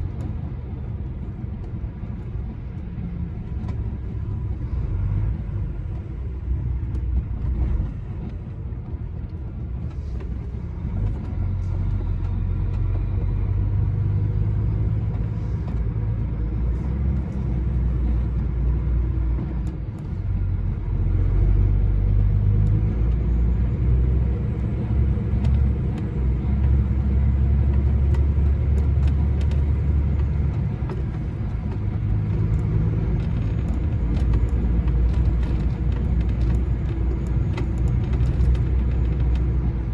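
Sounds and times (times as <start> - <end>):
road rumble: 0.0 - 39.9
truck diesel engine from cab: 0.0 - 39.9.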